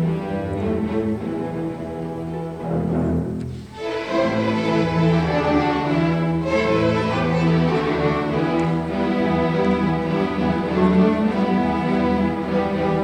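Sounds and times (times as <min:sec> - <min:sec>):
string orchestra playing bowed chords: 0:00.0 - 0:13.0.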